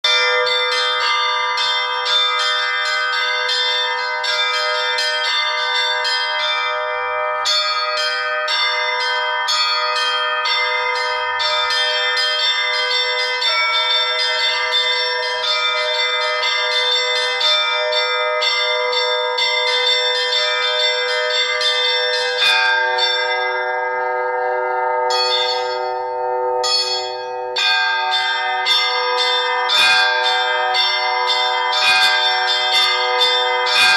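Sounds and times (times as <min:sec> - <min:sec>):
large church bells ringing: 0:00.0 - 0:33.9
low bell: 0:00.0 - 0:33.9
small church bells struck quickly: 0:00.0 - 0:33.9.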